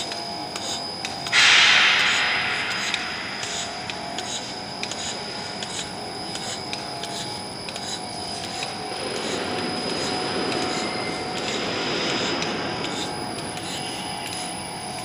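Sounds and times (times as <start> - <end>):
machinery whir and hiss: 0.0 - 15.0
thin high whine: 0.0 - 15.0.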